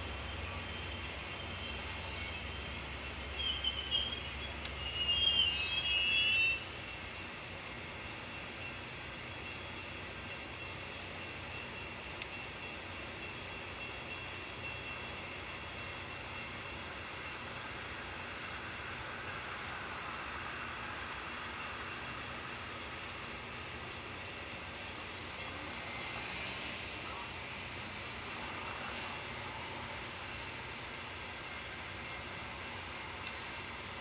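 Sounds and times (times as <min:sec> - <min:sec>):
train wheels rolling on rail: 0:00.0 - 0:34.0.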